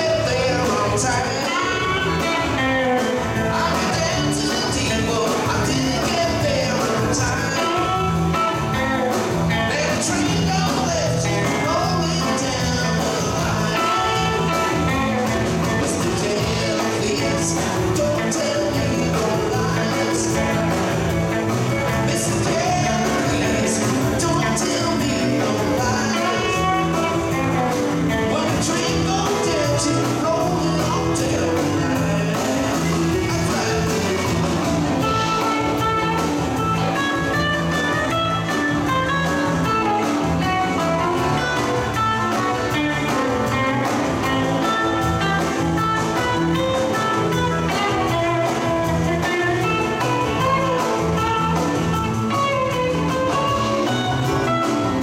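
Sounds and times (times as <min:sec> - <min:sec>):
lead electric guitar notes: 0:00.0 - 0:05.6, 0:07.0 - 0:55.0
live blues-rock band: 0:00.0 - 0:55.0.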